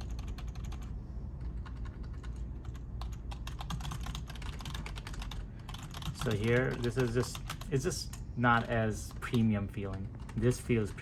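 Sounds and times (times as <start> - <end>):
computer keyboard typing: 0.0 - 11.0.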